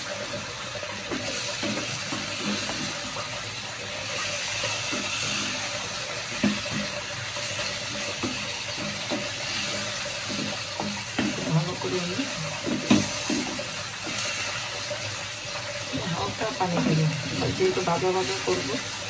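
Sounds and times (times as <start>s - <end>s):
curry sizzling in a frying pan: 0.0s - 19.0s.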